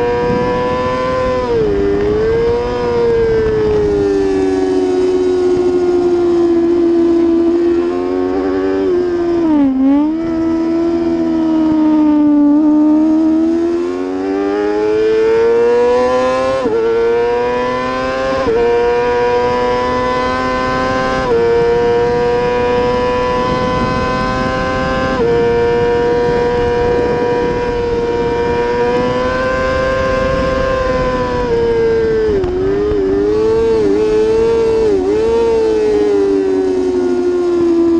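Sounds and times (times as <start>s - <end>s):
motorbike engine revving: 0.0s - 37.9s.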